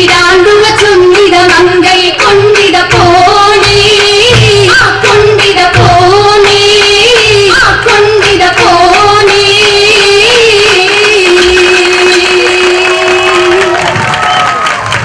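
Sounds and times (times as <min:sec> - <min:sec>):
women singing: 0:00.0 - 0:13.8
rhythmic clapping: 0:00.0 - 0:15.0.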